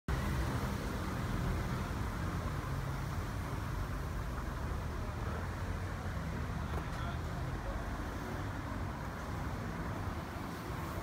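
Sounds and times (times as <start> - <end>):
city traffic rumble: 0.1 - 11.0.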